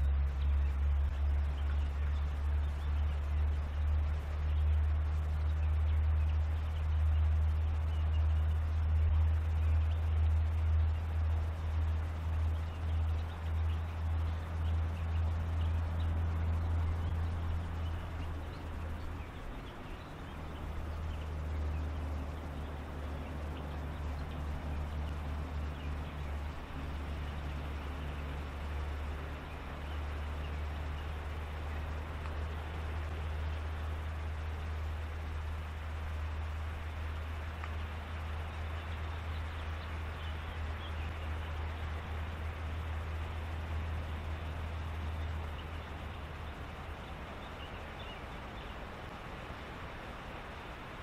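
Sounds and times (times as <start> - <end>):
steady low rumble: 0.0 - 51.0.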